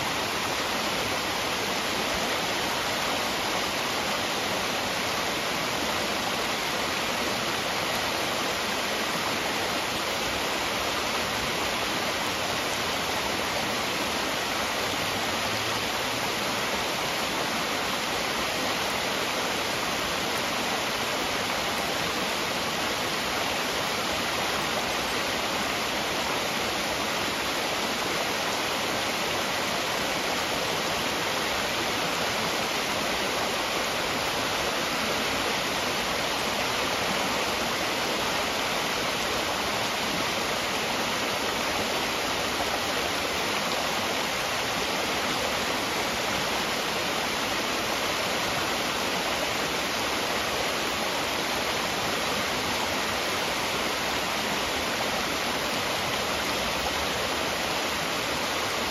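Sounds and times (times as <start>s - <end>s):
fast-flowing creek: 0.0s - 58.9s
small waterfall splashing: 0.0s - 58.9s.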